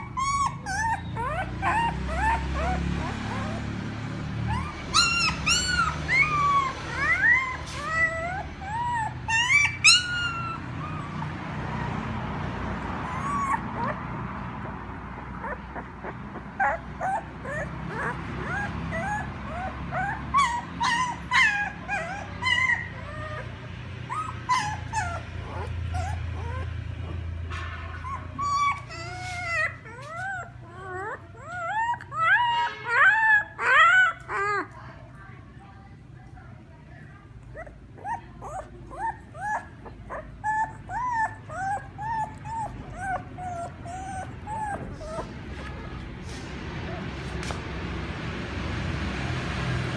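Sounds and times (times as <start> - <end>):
puppies whimpering and yelping: 0.0 - 35.2, 37.2 - 47.9.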